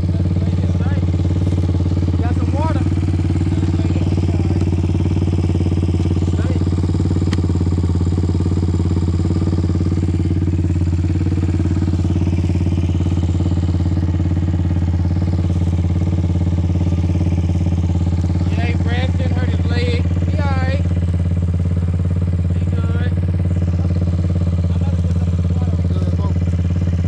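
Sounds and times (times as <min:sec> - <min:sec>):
off-road vehicle engine idling: 0:00.0 - 0:27.0.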